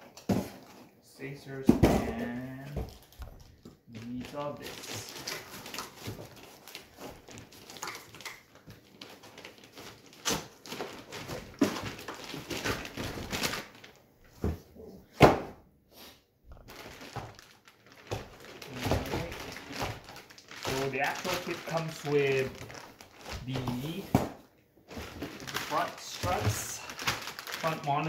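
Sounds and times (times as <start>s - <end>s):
cardboard and plastic wrap rustling: 1.5s - 15.4s, 16.5s - 28.0s.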